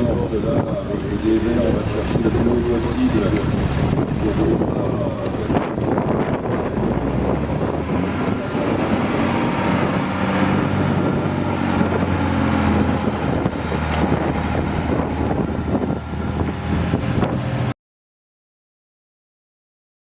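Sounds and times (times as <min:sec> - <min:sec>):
truck engine running under load: 0:00.0 - 0:17.7.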